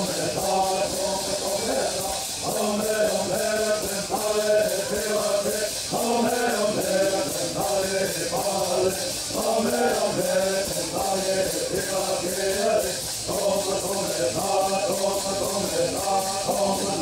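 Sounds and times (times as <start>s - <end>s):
gourd rattles shaken: 0.0s - 17.0s
men singing in unison: 0.0s - 17.0s.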